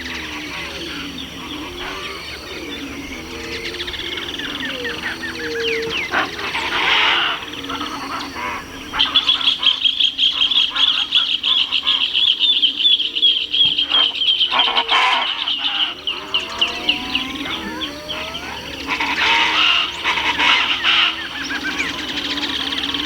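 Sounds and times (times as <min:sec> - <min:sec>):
chachalacas calling loudly: 0:00.0 - 0:23.0.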